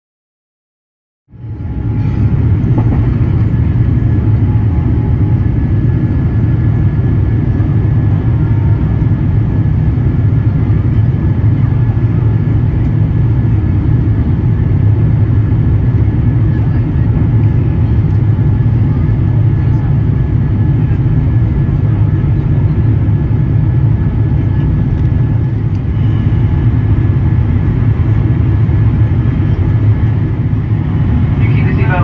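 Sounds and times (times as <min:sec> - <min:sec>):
faint whine: 0:01.3 - 0:32.0
jet engine cabin rumble: 0:01.3 - 0:32.0.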